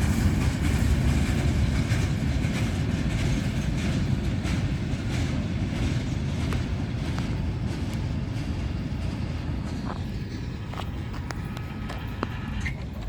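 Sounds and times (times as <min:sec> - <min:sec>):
freight train cars rolling: 0:00.0 - 0:13.0.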